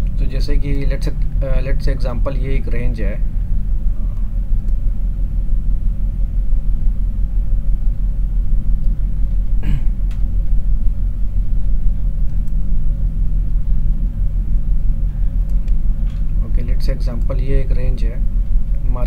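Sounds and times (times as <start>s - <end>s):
faint hum: 0.0s - 19.0s
low rumble: 0.0s - 19.0s.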